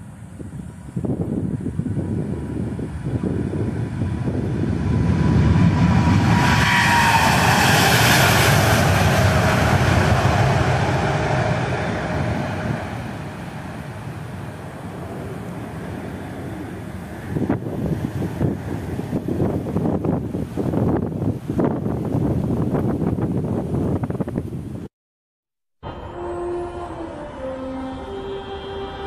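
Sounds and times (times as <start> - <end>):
jet airliner taking off: 0.0 - 24.3.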